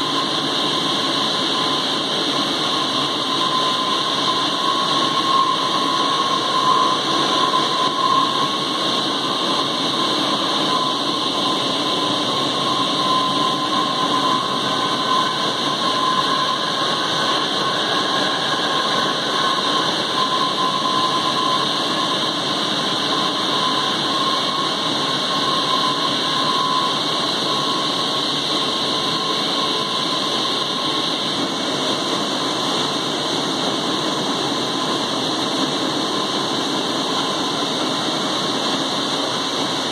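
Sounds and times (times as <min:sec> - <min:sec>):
high machine whine: 0:00.0 - 0:39.9.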